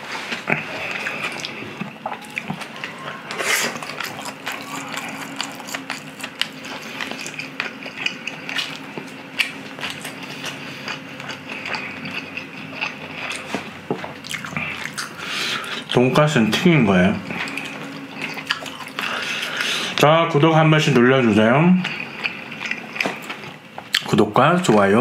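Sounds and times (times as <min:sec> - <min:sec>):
person chewing wetly: 0:00.3 - 0:16.0, 0:17.2 - 0:19.9, 0:21.8 - 0:24.1.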